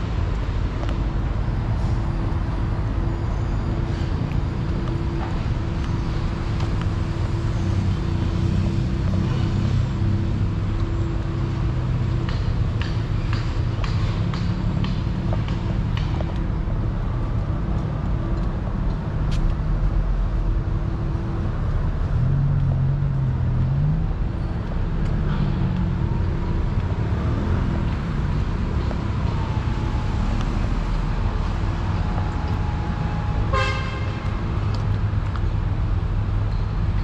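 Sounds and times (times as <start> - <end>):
car engines rumbling: 0.0 - 37.0.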